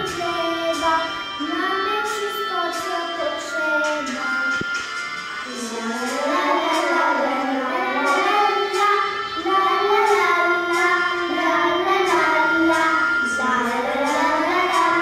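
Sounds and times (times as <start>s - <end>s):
children singing folk song: 0.0s - 4.8s, 5.4s - 15.0s.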